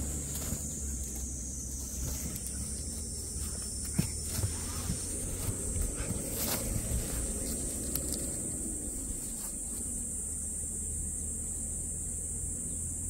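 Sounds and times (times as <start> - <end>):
low even rumble: 0.0 - 12.2
high-pitched insect drone: 0.0 - 13.0.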